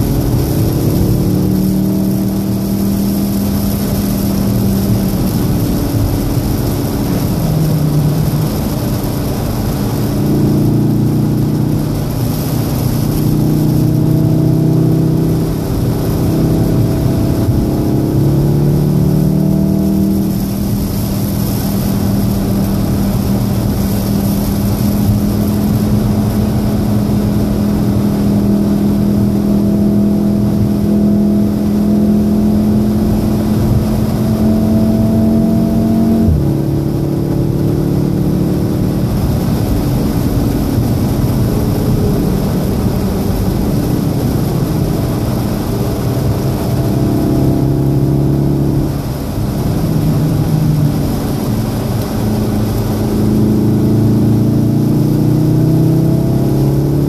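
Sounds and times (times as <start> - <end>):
rain and road spray hiss: 0.0 - 30.7, 31.6 - 34.6, 38.6 - 57.0
car engine pulling hard: 0.0 - 57.0.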